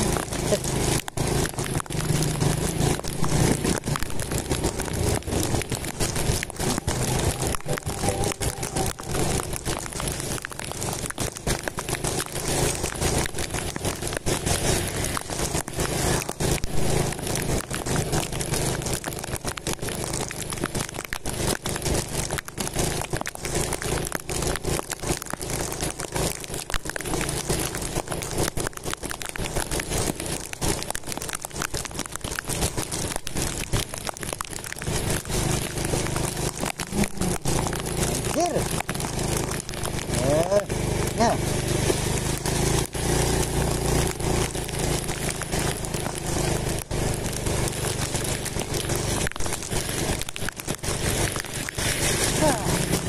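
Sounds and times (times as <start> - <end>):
faint motorcycle engine: 0.0 - 53.0
rain and wind on microphone: 0.0 - 53.0.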